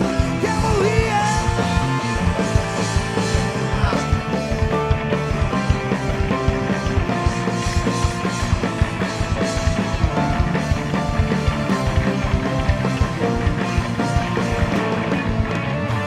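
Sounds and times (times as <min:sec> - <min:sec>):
bass: 0:00.0 - 0:16.0
driving drum kit beat: 0:00.0 - 0:16.0
electric guitars: 0:00.0 - 0:16.0.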